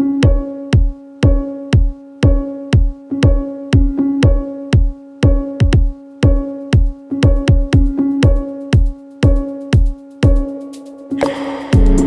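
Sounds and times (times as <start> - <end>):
deep kick drum: 0.0 - 10.4, 11.2 - 12.0.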